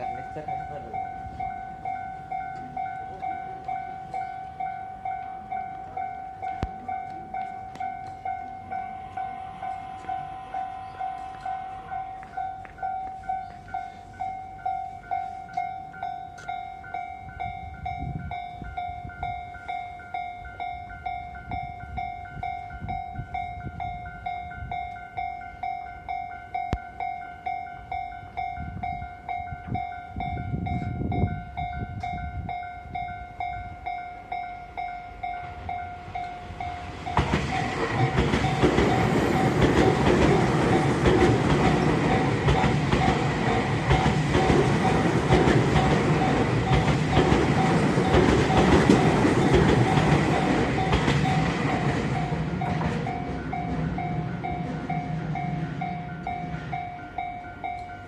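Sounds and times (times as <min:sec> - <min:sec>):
train passing: 0:00.0 - 0:58.0.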